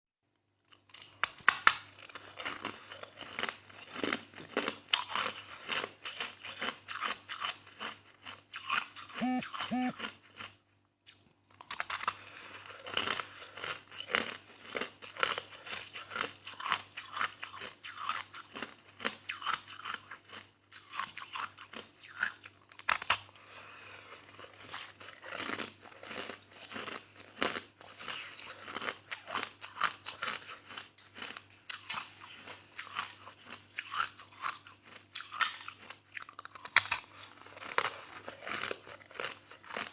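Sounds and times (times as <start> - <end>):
crushed ice being chewed: 0.6 - 39.9.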